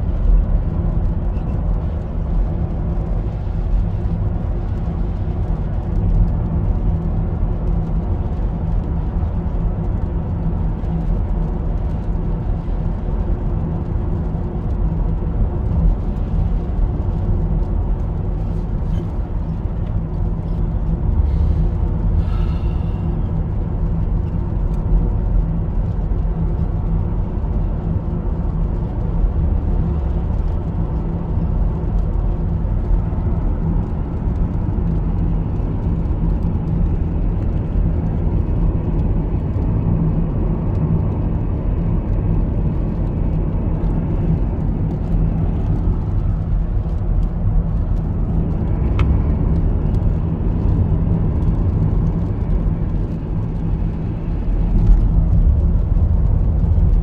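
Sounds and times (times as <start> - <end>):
car cabin road rumble: 0.0 - 57.0.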